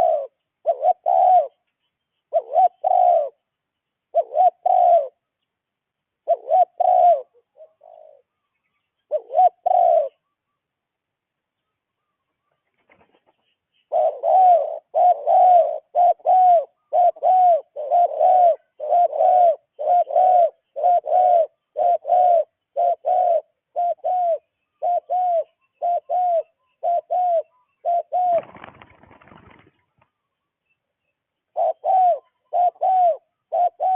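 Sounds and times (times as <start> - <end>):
bird calling: 0.0 - 5.6, 6.2 - 10.8, 11.6 - 33.9.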